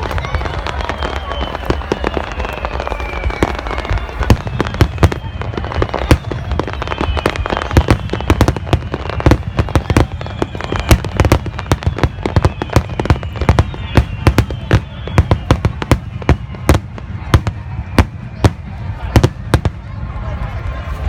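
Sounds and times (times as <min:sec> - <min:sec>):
fireworks bangs and crackles: 0:00.0 - 0:21.0
faint falling whistles: 0:00.4 - 0:19.1.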